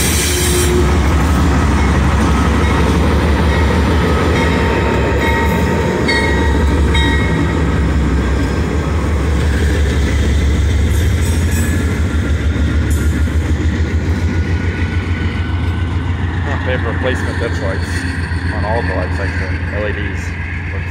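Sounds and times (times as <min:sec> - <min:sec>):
locomotive engine rumble: 0:00.0 - 0:20.9.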